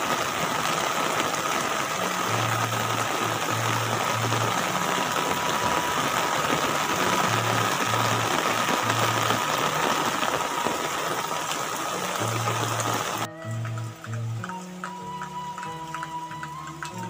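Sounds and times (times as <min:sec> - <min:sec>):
heavy rain on tile roof: 0:00.0 - 0:17.0.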